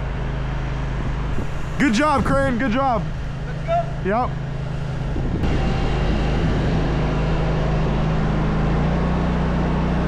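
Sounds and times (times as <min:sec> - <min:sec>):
dense rushing noise: 0:00.0 - 0:09.6
vehicle engine under load: 0:00.0 - 0:10.0.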